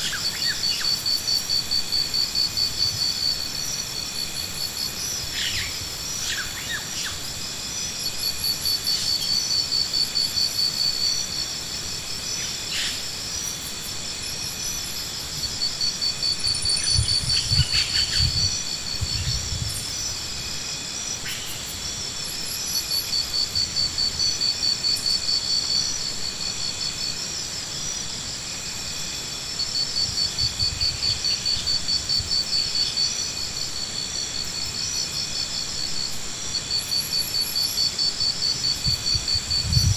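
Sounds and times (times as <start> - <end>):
insects pulsing trill: 0.0 - 39.9.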